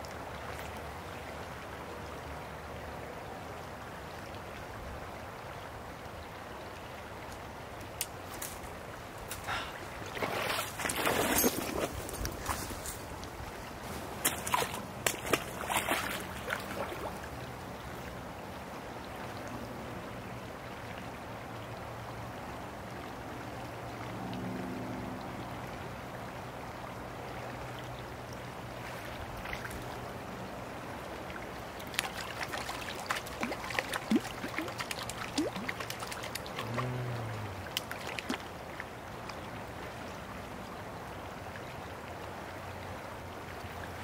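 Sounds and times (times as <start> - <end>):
creek flowing over gravel: 0.0 - 44.0.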